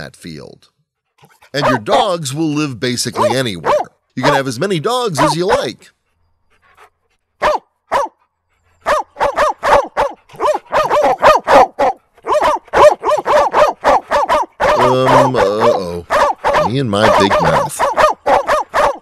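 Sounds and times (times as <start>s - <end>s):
small dogs yapping and barking: 1.2s - 2.1s, 3.1s - 4.5s, 5.1s - 5.7s, 6.5s - 19.0s.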